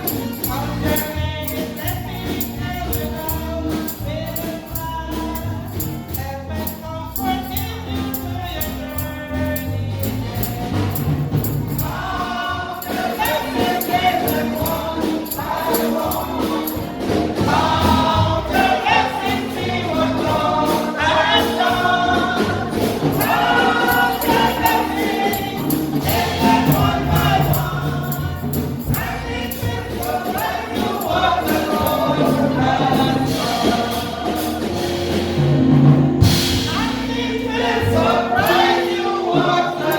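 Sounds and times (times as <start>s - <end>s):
choir singing gospel: 0.0s - 39.9s
tambourine beat: 0.0s - 39.9s.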